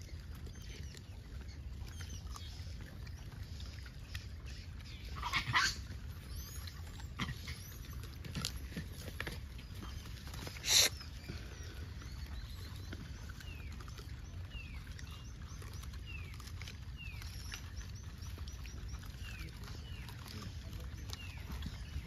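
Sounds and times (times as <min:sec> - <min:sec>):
monkeys eating with soft rustles: 0:00.0 - 0:22.0.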